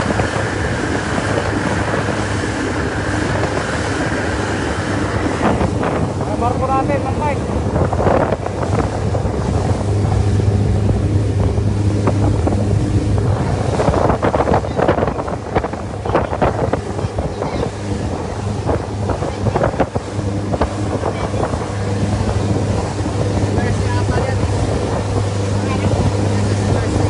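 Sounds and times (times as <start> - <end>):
boat engine humming: 0.0 - 27.0
wind buffeting microphone: 0.0 - 27.0.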